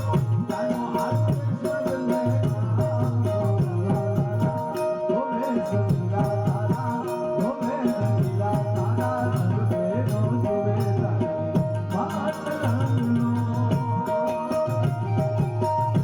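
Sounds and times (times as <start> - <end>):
hand drum beat: 0.0 - 16.0.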